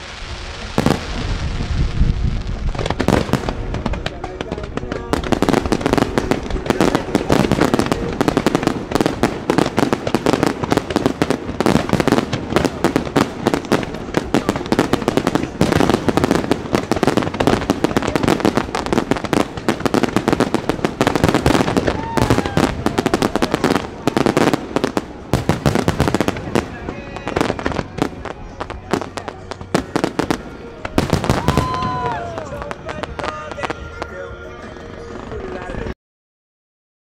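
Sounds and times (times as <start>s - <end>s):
fireworks cracks and bangs: 0.0s - 35.9s.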